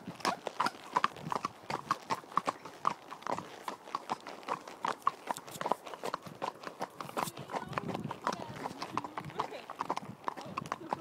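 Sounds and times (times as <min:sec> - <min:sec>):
horse hooves clip-clopping on tarmac: 0:00.0 - 0:11.0.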